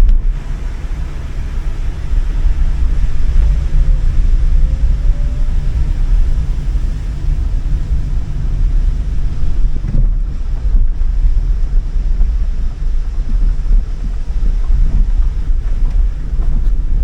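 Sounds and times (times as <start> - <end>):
gale wind buffeting microphone: 0.0 - 17.0.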